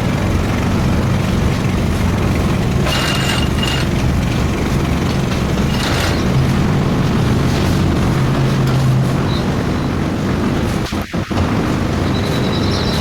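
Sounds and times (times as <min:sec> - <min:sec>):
construction machinery engine droning: 0:00.0 - 0:13.0.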